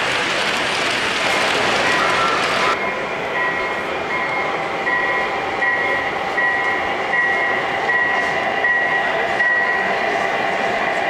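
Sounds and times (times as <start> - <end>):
model locomotive running noise: 0.0 - 11.0.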